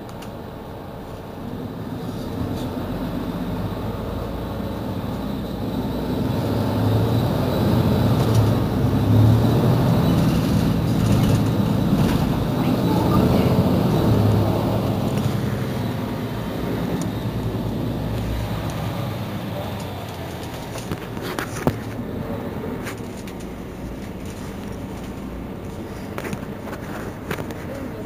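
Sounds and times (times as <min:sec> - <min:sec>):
bus engine rumbling: 0:00.0 - 0:28.0.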